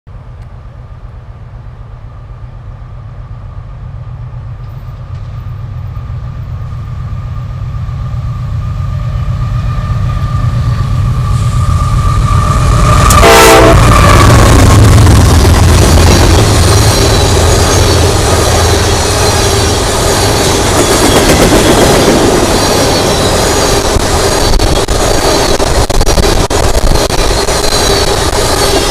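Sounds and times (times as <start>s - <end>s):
locomotive engine rumbling: 0.1s - 28.9s
loud locomotive burst: 5.0s - 28.9s
steady high tone: 5.6s - 28.9s.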